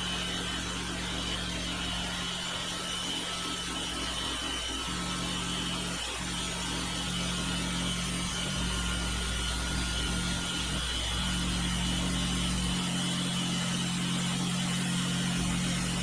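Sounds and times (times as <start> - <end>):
motor high whine: 0.0 - 16.0
motor hum: 0.0 - 16.0.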